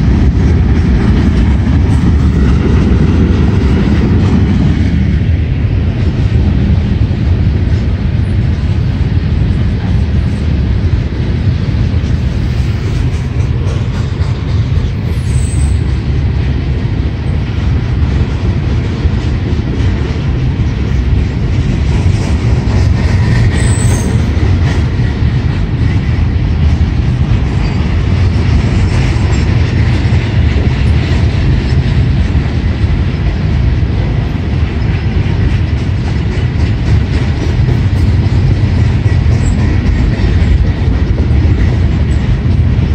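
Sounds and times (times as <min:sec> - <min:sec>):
train wheels rumbling on rail: 0:00.0 - 0:42.9
wheels clicking over rail joints: 0:05.9 - 0:42.9.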